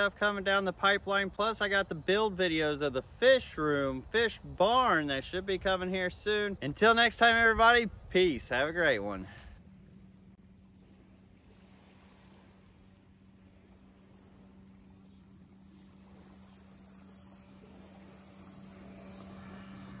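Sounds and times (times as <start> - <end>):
insects chirring: 0.0 - 20.0
low steady hum: 0.0 - 20.0.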